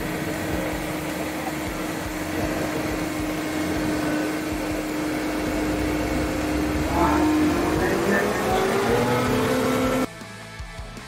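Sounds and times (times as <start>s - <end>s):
vacuum truck machinery whirring: 0.0s - 10.1s.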